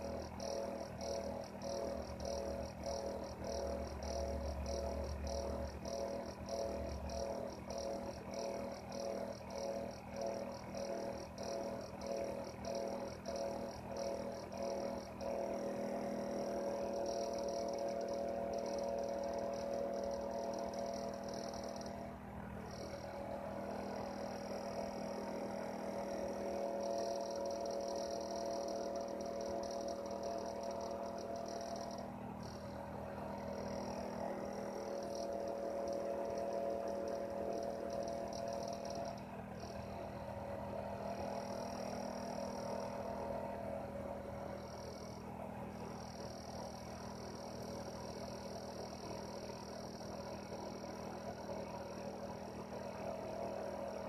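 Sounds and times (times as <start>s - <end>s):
heater humming: 0.0s - 54.0s.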